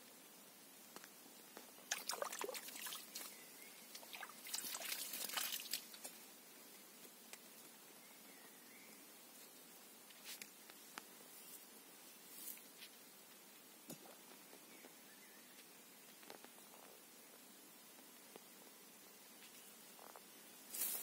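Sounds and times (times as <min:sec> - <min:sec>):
steady hiss: 0:00.0 - 0:21.0
grass and dry leaves rustling: 0:01.6 - 0:08.5, 0:09.3 - 0:21.0.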